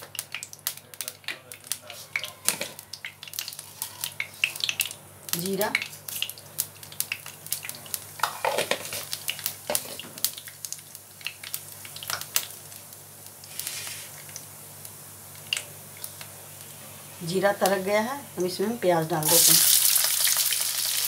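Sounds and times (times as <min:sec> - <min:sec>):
seeds popping in hot oil: 0:00.0 - 0:16.7, 0:17.3 - 0:21.0
oil sizzling: 0:00.0 - 0:21.0.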